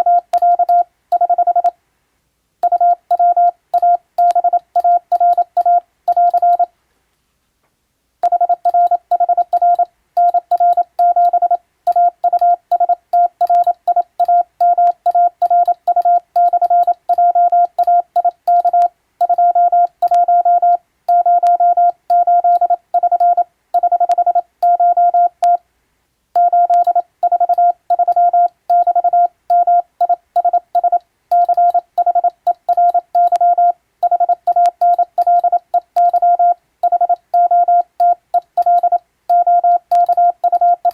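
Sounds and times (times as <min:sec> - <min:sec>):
morse code beeps: 0:00.0 - 0:01.7, 0:02.6 - 0:06.7, 0:08.2 - 0:25.6, 0:26.4 - 0:40.9.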